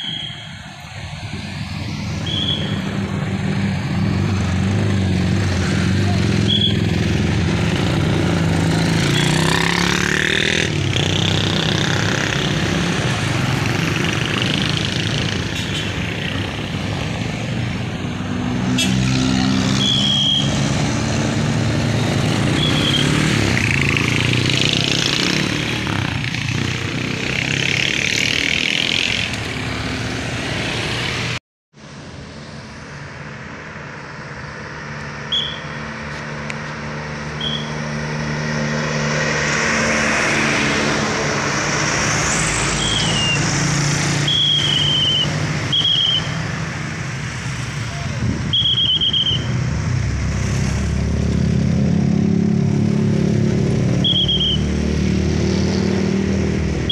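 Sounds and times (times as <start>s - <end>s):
motorcycle and scooter traffic: 0.0s - 56.9s
quieter road traffic: 0.0s - 56.9s.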